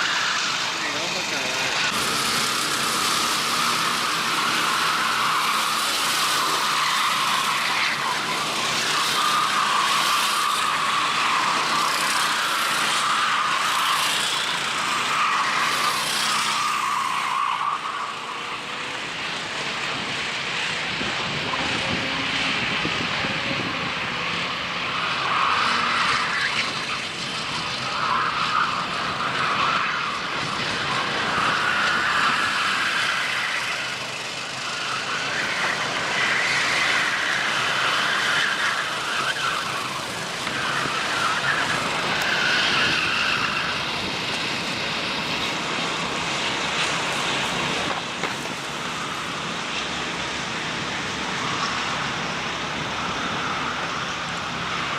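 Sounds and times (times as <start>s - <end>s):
racing kart engines: 0.0s - 54.9s.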